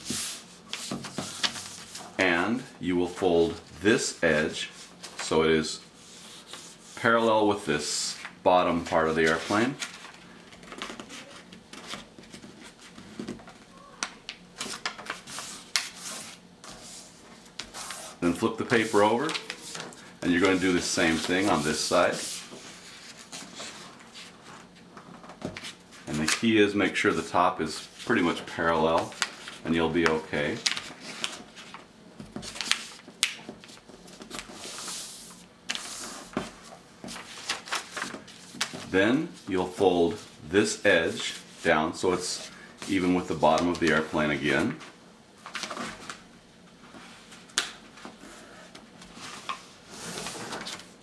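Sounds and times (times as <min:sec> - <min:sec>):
paper rustling: 0:00.0 - 0:02.2, 0:08.1 - 0:26.5, 0:27.8 - 0:46.2, 0:47.2 - 0:51.0.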